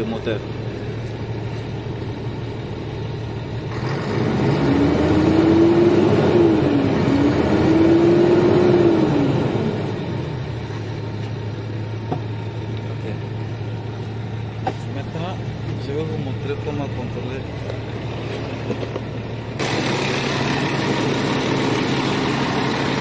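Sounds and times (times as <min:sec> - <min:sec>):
diesel truck engine revving: 0:00.0 - 0:23.0.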